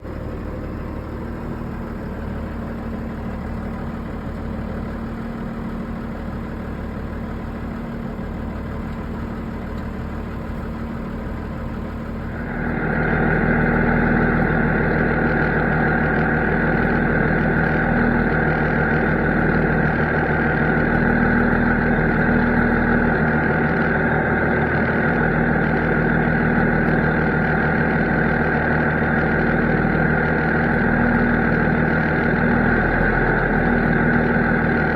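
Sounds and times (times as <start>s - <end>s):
diesel engine running: 0.0s - 34.9s
steady mechanical whine: 0.0s - 34.9s.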